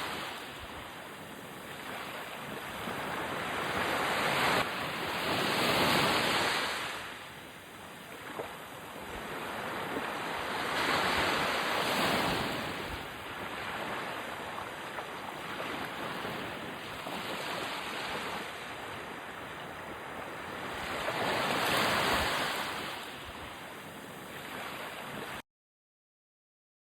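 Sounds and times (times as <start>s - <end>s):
ocean waves breaking: 0.0s - 25.4s.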